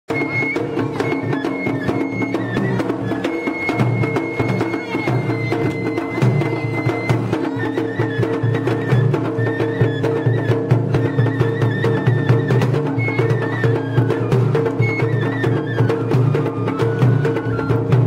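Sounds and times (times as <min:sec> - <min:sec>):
high whistle-like note: 0:00.1 - 0:18.0
rapid drum beating: 0:00.1 - 0:18.0.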